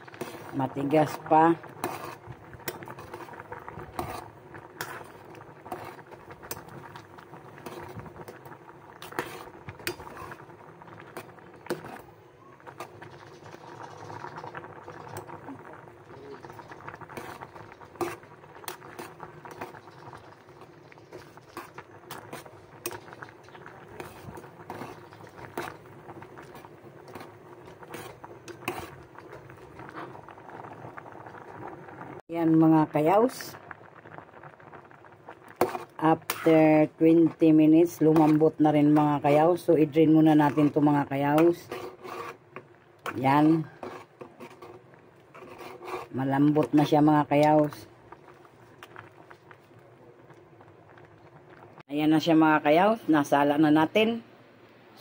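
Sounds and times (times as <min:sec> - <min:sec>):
water boiling in pot: 0:00.0 - 0:54.2.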